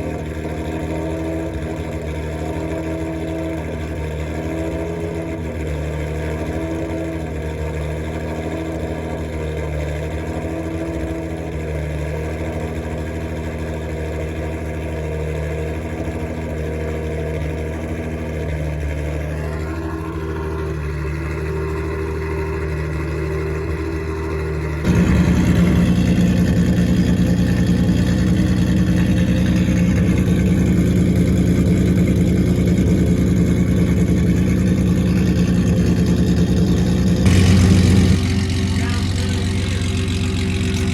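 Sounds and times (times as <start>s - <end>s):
car engine idling roughly: 0.0s - 40.9s.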